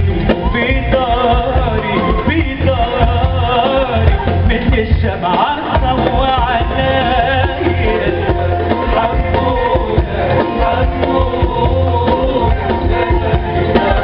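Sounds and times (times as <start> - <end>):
live orchestra with percussion: 0.0 - 14.0
man singing: 0.0 - 14.0.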